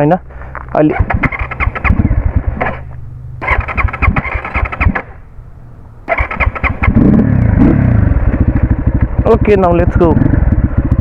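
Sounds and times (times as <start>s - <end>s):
dirt bike engine running: 0.5s - 5.2s, 6.1s - 11.0s
dirt bike engine cranking: 0.9s - 5.2s, 6.1s - 11.0s.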